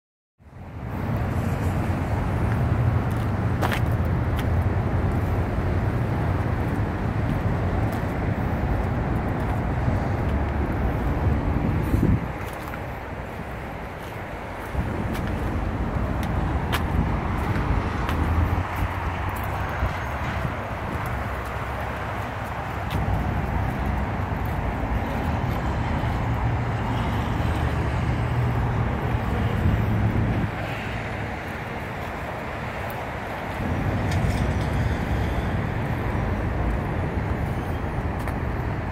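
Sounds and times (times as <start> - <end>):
outdoor noise: 0.4 - 38.9
vehicle engine rumbling: 0.4 - 38.9.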